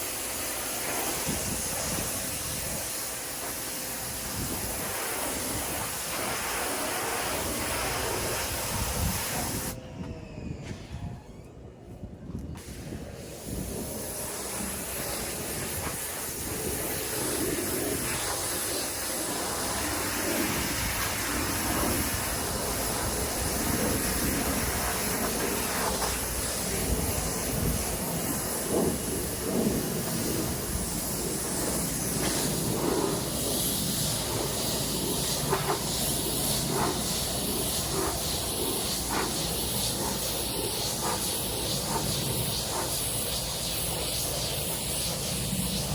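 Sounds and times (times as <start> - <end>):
water spray hissing on siding: 0.0 - 9.8, 12.6 - 45.9.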